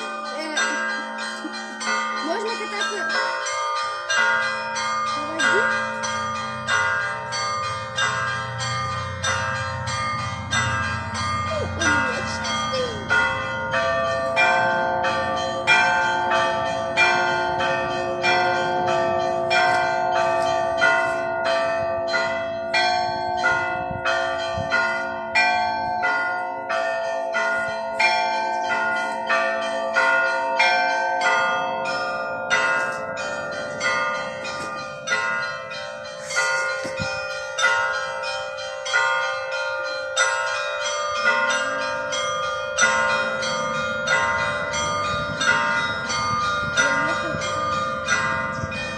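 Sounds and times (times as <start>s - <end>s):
church bells ringing: 0.0s - 48.9s.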